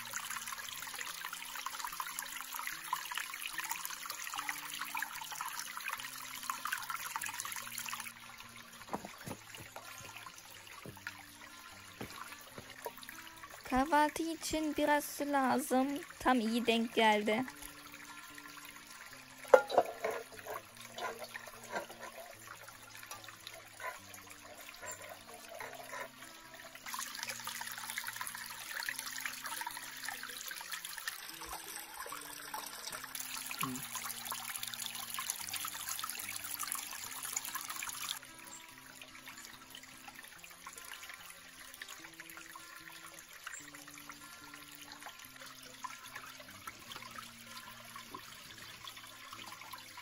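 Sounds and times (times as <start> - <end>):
soft background music: 0.0 - 50.0
water trickling into a pot: 0.0 - 50.0.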